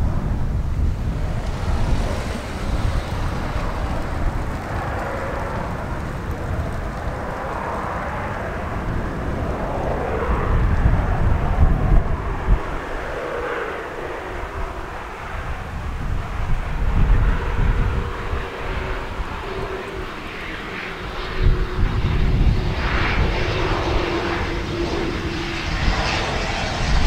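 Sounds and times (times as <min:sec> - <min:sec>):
turboprop aircraft droning: 0:00.0 - 0:27.0
wind rumble on microphone: 0:00.0 - 0:27.0.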